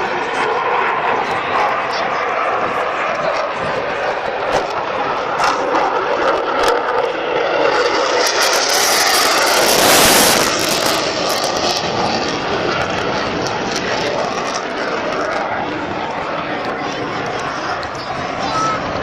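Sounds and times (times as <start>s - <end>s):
jet passing: 0.0s - 19.0s.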